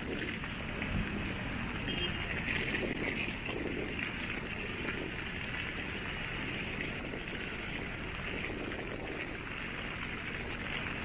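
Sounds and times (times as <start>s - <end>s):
rain hiss: 0.0s - 11.0s
traffic on wet streets: 0.0s - 11.0s.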